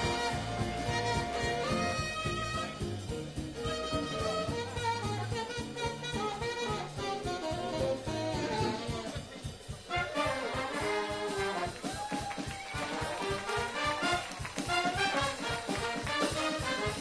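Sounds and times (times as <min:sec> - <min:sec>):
big band playing swing jazz: 0:00.0 - 0:17.0.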